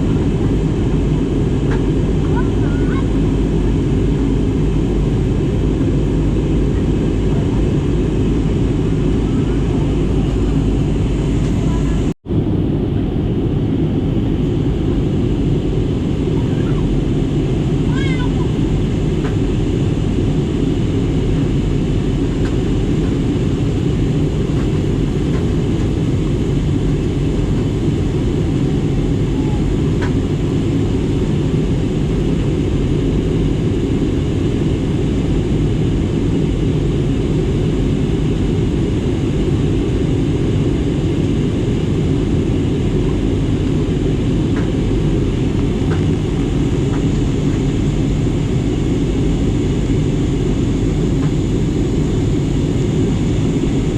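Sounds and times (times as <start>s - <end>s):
airliner cabin engine rumble: 0.0s - 53.9s.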